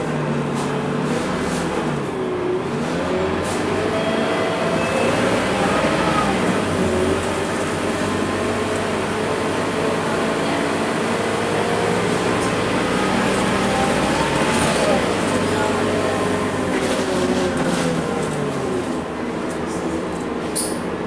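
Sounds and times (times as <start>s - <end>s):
diesel bus engine running: 0.0s - 21.0s
road and tyre noise: 0.0s - 21.0s.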